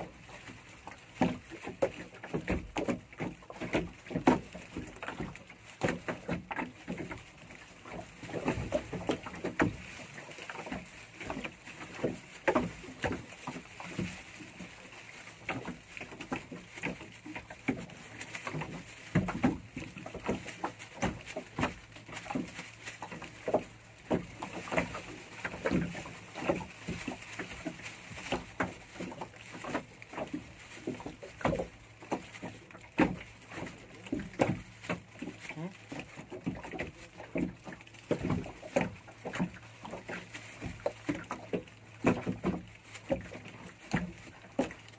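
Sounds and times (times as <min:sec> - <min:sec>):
water splashing against boat hull: 0:00.0 - 0:44.9.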